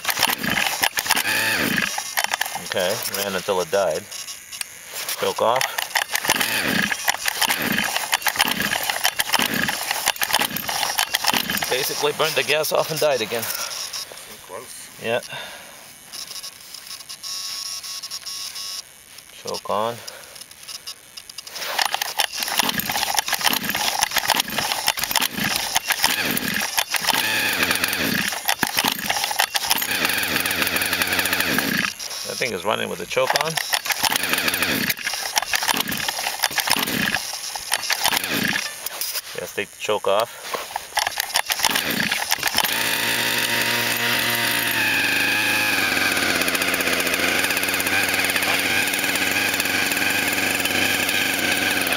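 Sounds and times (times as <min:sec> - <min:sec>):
small gas engine surging unevenly: 0:00.0 - 0:15.8, 0:21.4 - 0:51.9.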